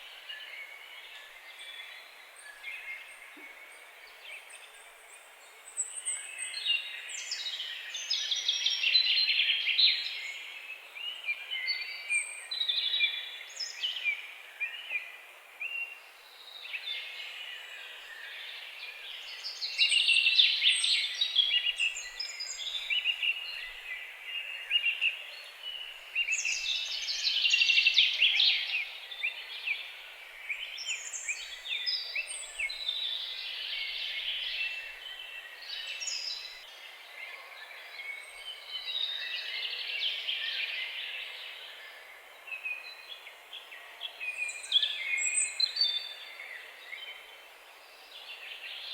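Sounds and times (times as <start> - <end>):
faint steady hiss: 0.0 - 48.9
songbirds chorus: 0.0 - 48.9.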